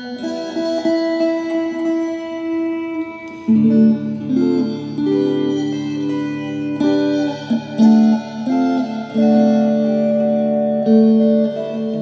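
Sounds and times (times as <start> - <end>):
guitar plucked melody: 0.0 - 12.0.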